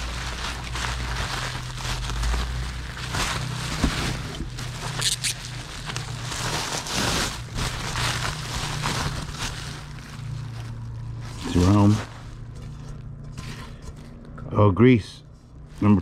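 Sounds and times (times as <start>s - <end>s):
packing material rustling: 0.0s - 14.3s
steady low hum: 0.0s - 16.0s.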